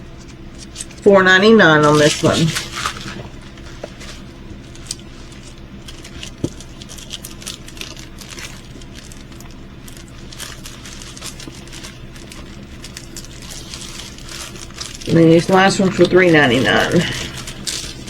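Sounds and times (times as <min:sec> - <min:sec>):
steady low hum: 0:00.0 - 0:18.0
plastic packaging crinkling: 0:00.2 - 0:18.0.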